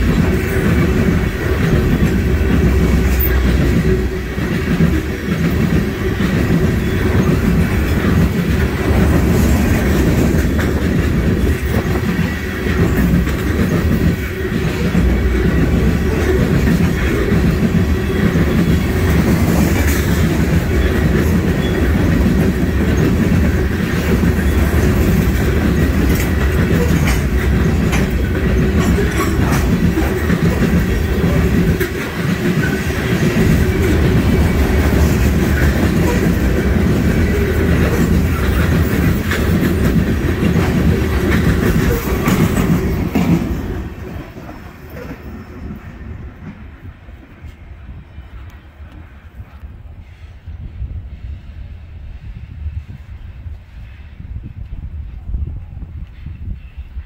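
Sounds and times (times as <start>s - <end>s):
clickety-clack of wheels: 0.0s - 46.8s
train wheels rumbling on rails: 0.0s - 57.0s.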